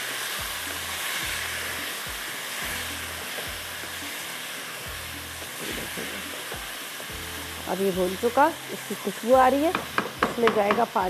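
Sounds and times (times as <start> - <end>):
soft background music: 0.0 - 11.0
vegetables sizzling in hot oil: 0.0 - 11.0.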